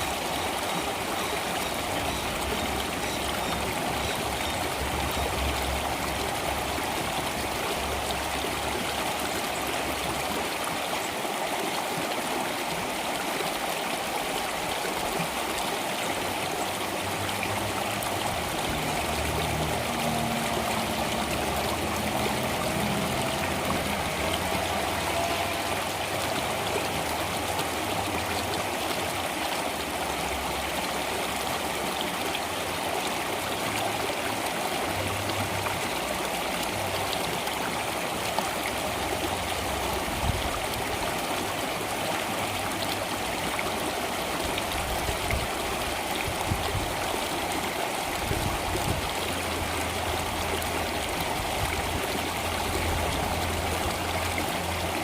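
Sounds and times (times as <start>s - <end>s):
water flowing in a stream: 0.0s - 55.0s.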